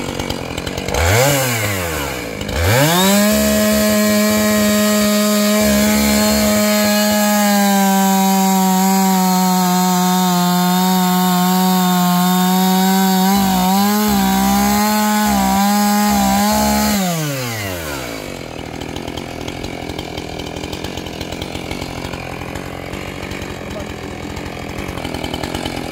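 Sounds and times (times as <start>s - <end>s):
chainsaw cutting log: 0.0s - 25.9s.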